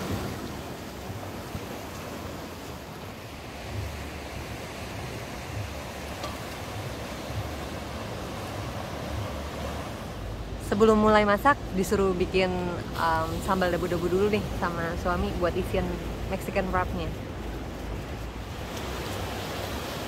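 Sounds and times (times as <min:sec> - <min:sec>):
surf washing onto beach: 0:00.0 - 0:10.6, 0:12.5 - 0:20.0
wind rumbling on microphone: 0:00.0 - 0:20.0.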